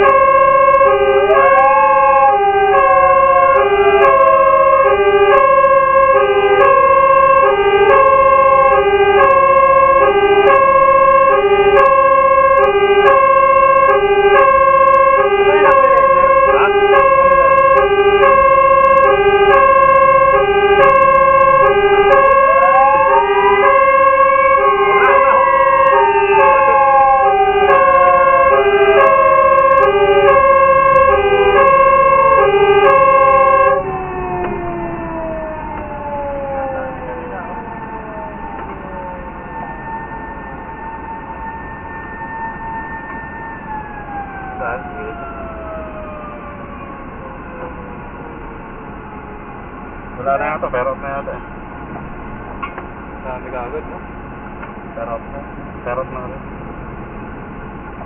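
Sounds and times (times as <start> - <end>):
two-tone siren: 0.0 - 51.4
sirens wailing: 0.0 - 58.0.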